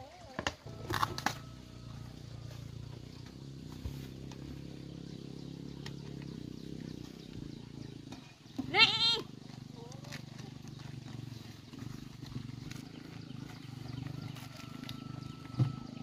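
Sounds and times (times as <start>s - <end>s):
animal call: 0.0s - 16.0s.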